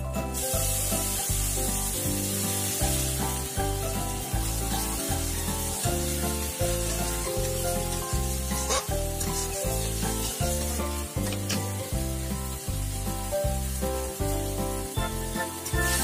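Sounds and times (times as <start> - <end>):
background music with steady beat: 0.0 - 16.0
fish sizzling in hot oil: 0.0 - 16.0
spatula stirring in wok: 0.7 - 16.0.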